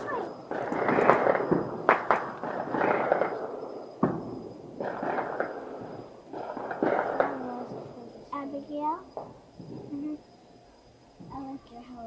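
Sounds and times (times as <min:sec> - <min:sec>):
fireworks bangs: 0:00.0 - 0:10.0
rumbling noise: 0:00.0 - 0:10.2.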